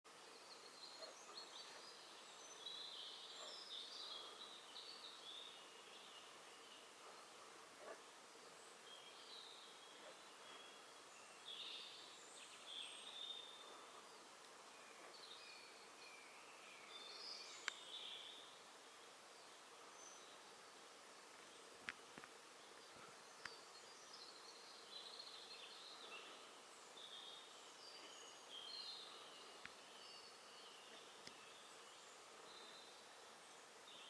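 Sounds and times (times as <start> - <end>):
faint songbird phrases: 0.1 - 34.0
low steady hiss: 0.1 - 34.0.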